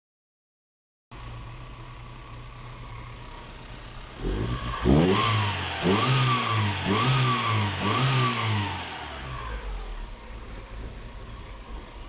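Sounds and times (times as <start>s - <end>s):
car engine idling: 1.1s - 12.0s
car engine revving: 1.3s - 12.0s.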